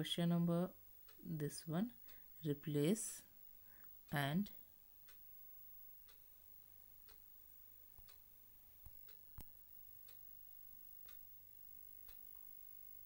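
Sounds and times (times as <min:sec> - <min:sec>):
faint clock ticking: 0:00.0 - 0:13.0.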